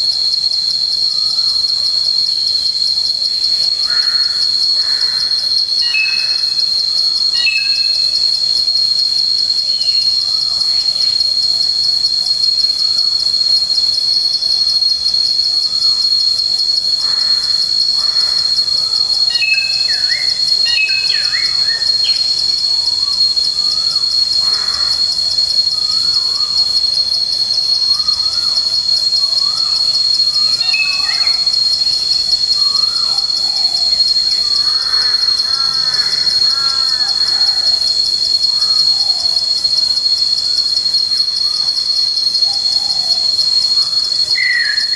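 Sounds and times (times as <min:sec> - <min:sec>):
insects trilling: 0:00.0 - 0:44.9.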